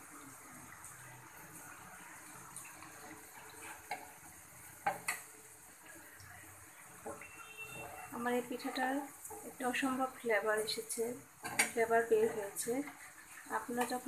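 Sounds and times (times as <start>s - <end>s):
oil sizzling: 0.0s - 14.0s.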